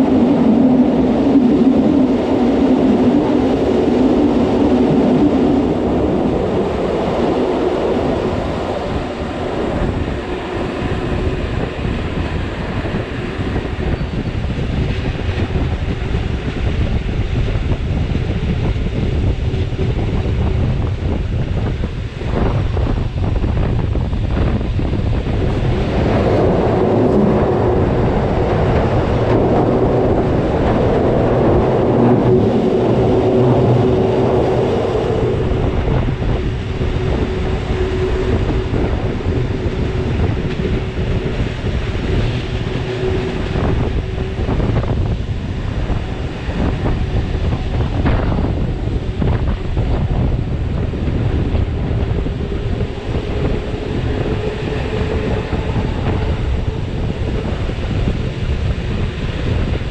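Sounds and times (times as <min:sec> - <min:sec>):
train running along track: 0:00.0 - 0:59.9
wind buffeting microphone: 0:00.0 - 0:59.9.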